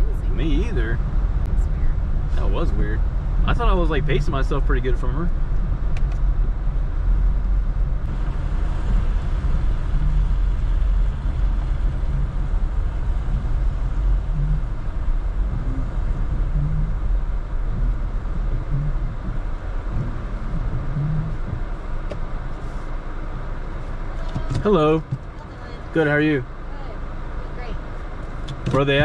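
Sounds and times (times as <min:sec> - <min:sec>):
engine and road rumble: 0:00.0 - 0:29.0.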